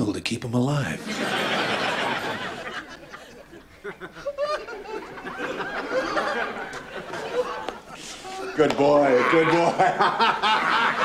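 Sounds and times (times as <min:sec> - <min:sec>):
audience laughing: 0:01.0 - 0:11.0.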